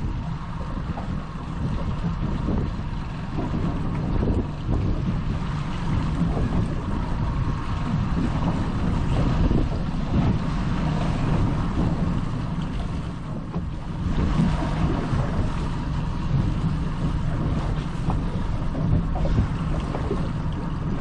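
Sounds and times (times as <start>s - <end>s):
boat motor running: 0.0s - 21.0s
wind buffeting microphone: 0.0s - 21.0s.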